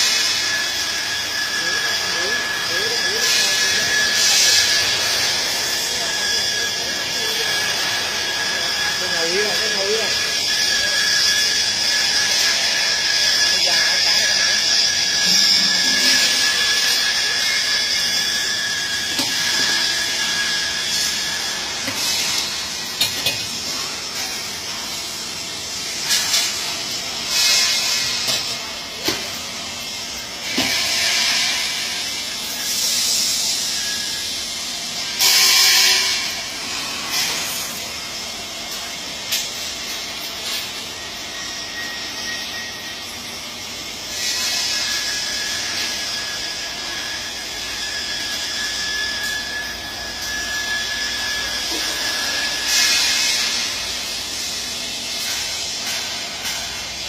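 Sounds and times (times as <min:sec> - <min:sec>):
welding arc hissing and crackling: 0:00.0 - 0:57.0.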